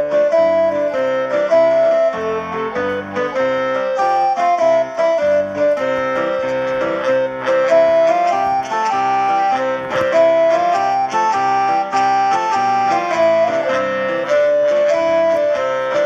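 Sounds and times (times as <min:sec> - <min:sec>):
piano music through headphones: 0:00.0 - 0:16.0.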